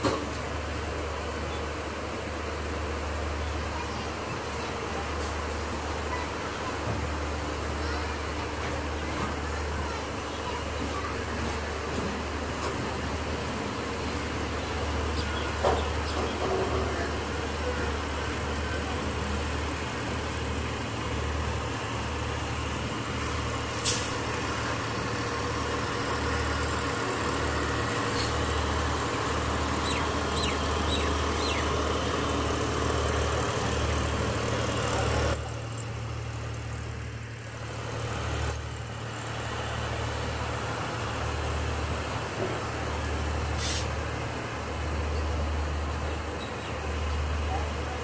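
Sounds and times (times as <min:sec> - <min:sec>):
train wheels rumbling: 0:00.0 - 0:48.0.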